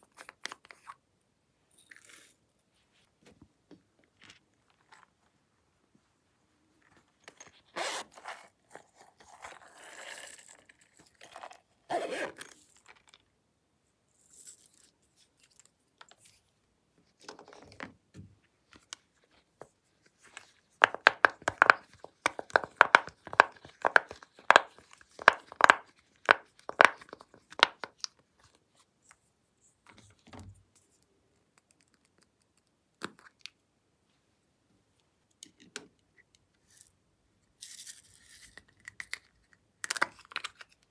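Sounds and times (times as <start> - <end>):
rustling and squeezing silicone: 0.0 - 1.1, 1.7 - 13.4, 14.0 - 33.7, 35.1 - 40.9.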